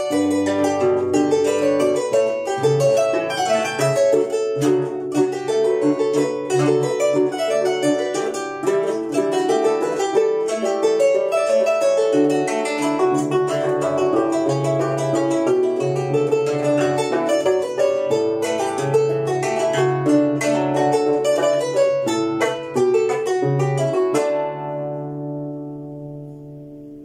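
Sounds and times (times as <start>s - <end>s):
harp plucked melody: 0.0s - 27.0s.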